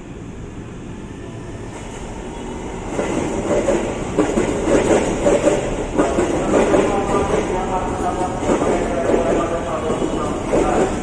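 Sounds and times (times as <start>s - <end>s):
electric train running on rails: 0.0s - 11.0s.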